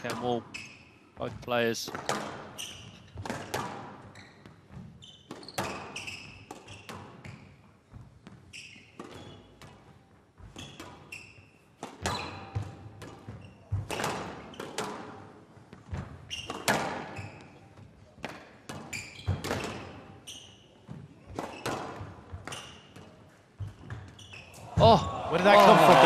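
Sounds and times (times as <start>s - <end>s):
squash ball hitting rackets and walls: 0.0s - 0.8s, 1.9s - 25.1s
shoes squeaking on court: 0.0s - 24.8s.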